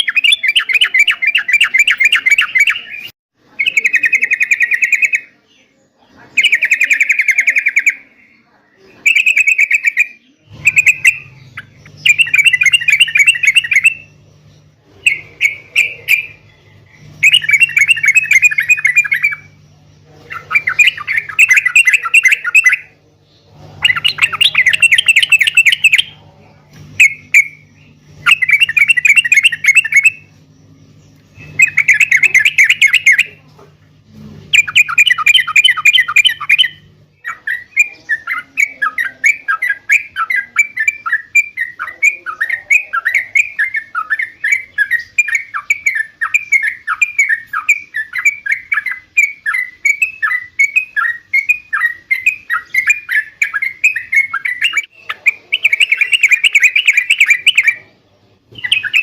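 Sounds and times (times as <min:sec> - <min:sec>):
bulbul bubbly chattering song: 0:00.0 - 0:05.4, 0:06.2 - 0:08.4, 0:09.0 - 0:59.0.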